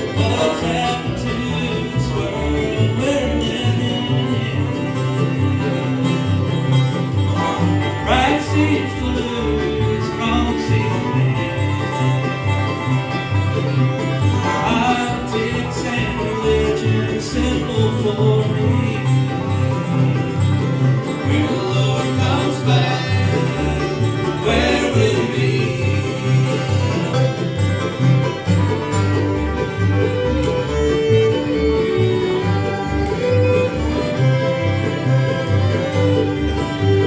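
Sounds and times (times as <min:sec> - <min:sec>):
bluegrass band playing: 0:00.0 - 0:37.0
upright bass walking line: 0:00.0 - 0:37.0.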